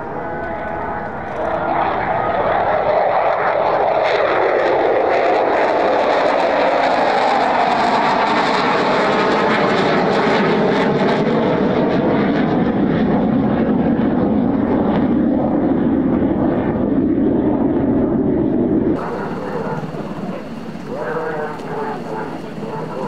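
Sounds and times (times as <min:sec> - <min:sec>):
jet engines on flyby: 0:00.0 - 0:23.0.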